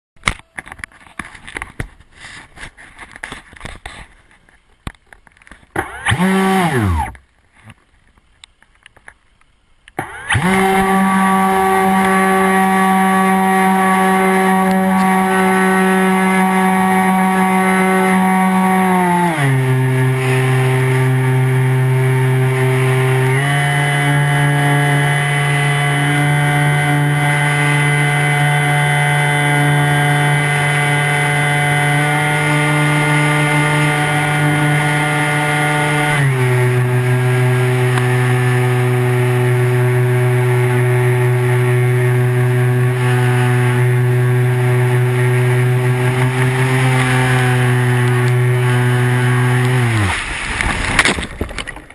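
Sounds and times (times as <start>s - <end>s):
model aircraft motor and propeller: 5.3s - 7.2s, 10.0s - 50.6s.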